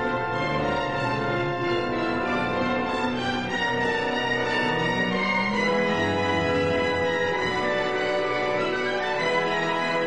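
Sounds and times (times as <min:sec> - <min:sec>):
orchestral strings sustained notes: 0:00.0 - 0:10.0.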